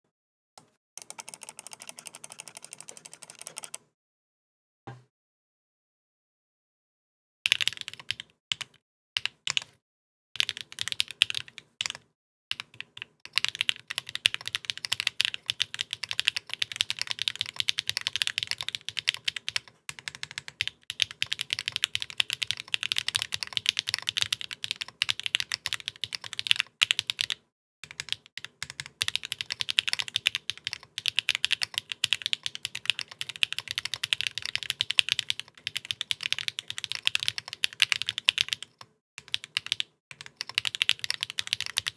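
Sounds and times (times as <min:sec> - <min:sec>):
typing on mechanical keyboard: 0:01.0 - 0:03.8, 0:07.5 - 0:09.7, 0:10.4 - 0:41.9.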